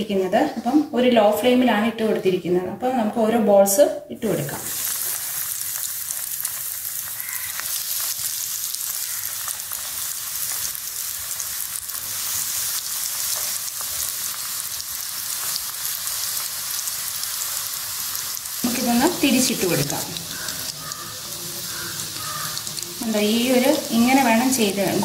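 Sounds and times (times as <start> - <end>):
deep-frying sizzle with crackling: 4.5 - 25.0.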